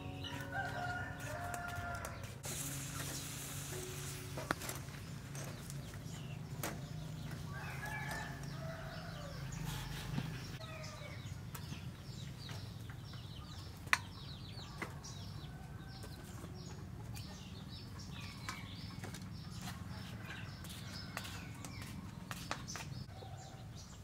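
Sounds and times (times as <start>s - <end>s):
chickens clucking: 0.0s - 22.4s
small birds chirping: 0.0s - 24.0s.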